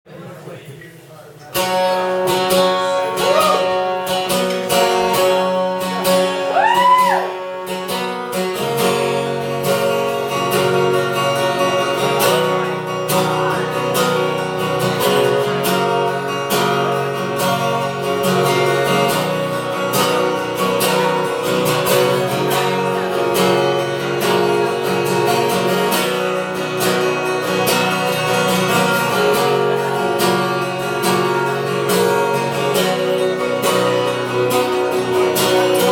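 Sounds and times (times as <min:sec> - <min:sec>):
acoustic guitar strumming: 0:01.5 - 0:35.9.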